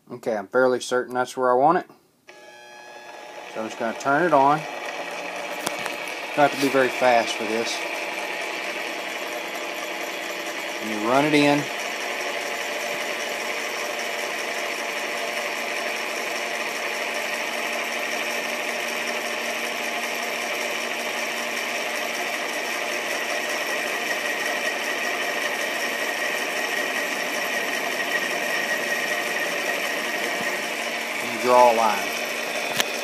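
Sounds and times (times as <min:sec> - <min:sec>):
metal lathe whining: 0:02.3 - 0:33.0.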